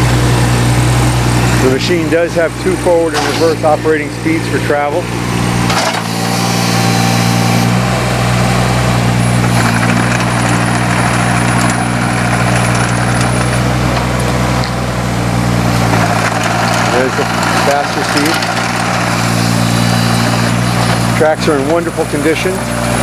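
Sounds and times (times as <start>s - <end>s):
diesel excavator running: 0.0s - 23.0s.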